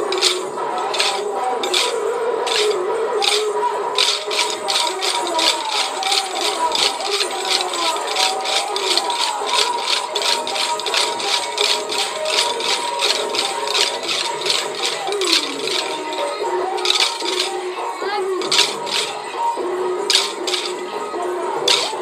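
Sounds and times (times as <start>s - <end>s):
wooden sticks clicking together: 0.0s - 17.7s, 18.4s - 19.2s, 20.1s - 20.8s, 21.6s - 22.0s.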